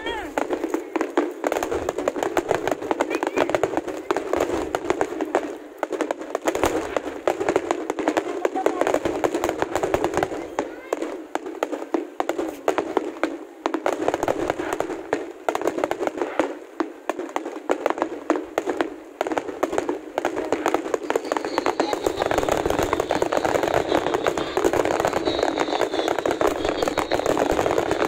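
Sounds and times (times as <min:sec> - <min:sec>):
fireworks crackling: 0:00.0 - 0:28.0
fireworks popping and banging: 0:00.0 - 0:28.0.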